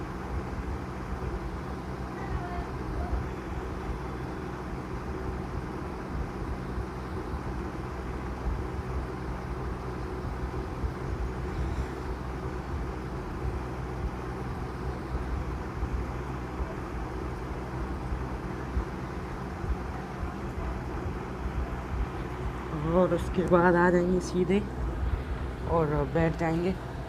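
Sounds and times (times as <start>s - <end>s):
air cooler fan humming: 0.0s - 27.0s.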